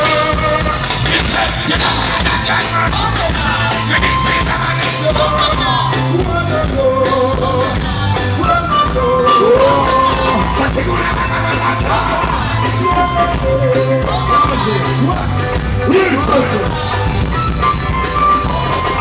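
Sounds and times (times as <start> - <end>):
bass line: 0.0 - 19.0
drums: 0.0 - 19.0
person singing: 0.0 - 19.0.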